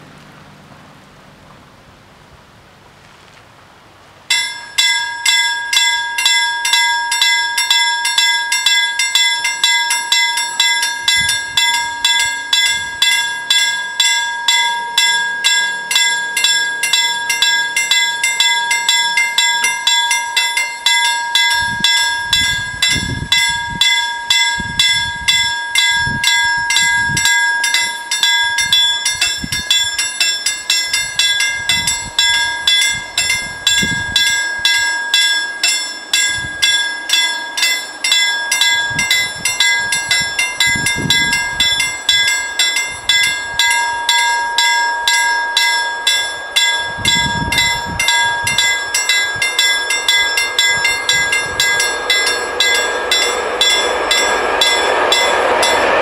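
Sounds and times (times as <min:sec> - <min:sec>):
level crossing bells clanging: 0:04.3 - 0:56.0.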